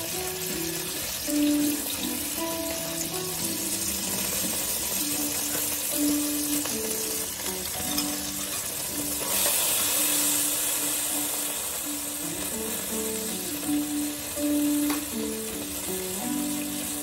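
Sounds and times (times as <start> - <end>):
background music with held notes: 0.0 - 17.0
garlic sizzling in hot oil: 0.0 - 17.0.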